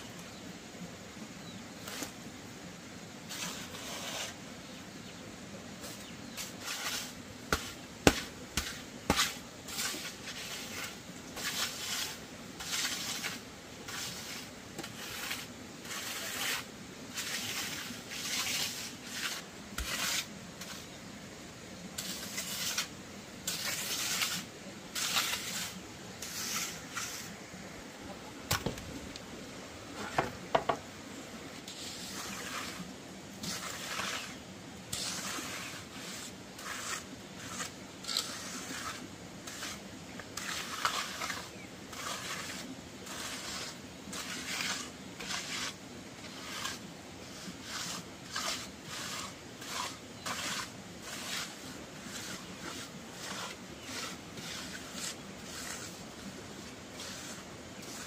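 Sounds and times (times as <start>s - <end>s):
rasping scraping strokes: 3.3s - 4.4s, 5.8s - 21.0s, 22.0s - 27.4s, 31.6s - 58.0s.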